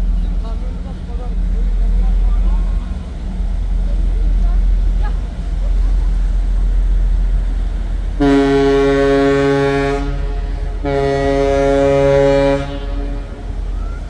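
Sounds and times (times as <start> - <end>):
low rumble: 0.0 - 14.0
ship's horn blasts: 0.0 - 14.0.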